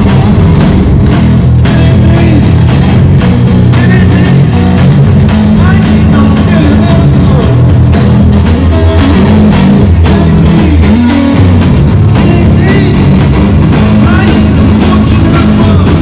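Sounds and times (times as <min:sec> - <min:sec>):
electric guitar: 0:00.0 - 0:16.0
steady drum beat: 0:00.0 - 0:16.0.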